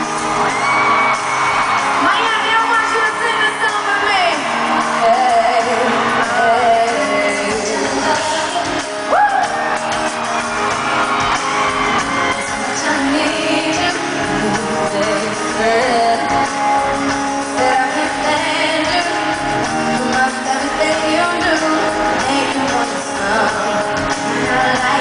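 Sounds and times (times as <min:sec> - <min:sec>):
crowd voices: 0:00.0 - 0:25.0
guitar accompaniment: 0:00.0 - 0:25.0
woman singing into a microphone: 0:02.0 - 0:09.6, 0:12.3 - 0:25.0.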